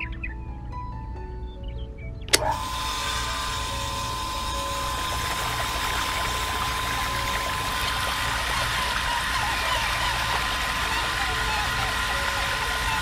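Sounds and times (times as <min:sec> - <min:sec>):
water pump whine: 0:02.3 - 0:13.0
water splashing into pond: 0:02.3 - 0:13.0.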